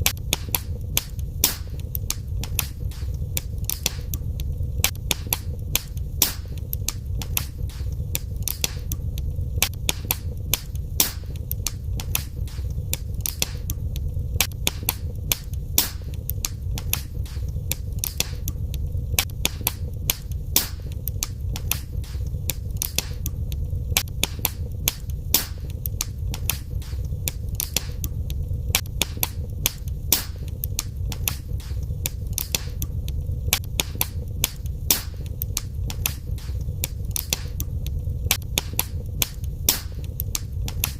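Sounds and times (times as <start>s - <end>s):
steady low rumble: 0.0s - 40.9s
wood fire crackling: 0.0s - 40.9s.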